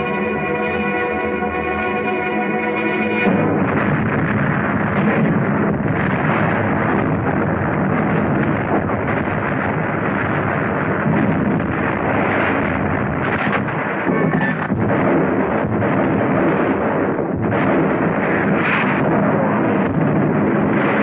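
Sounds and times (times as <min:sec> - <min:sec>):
artillery fire and explosions: 0:00.0 - 0:21.0.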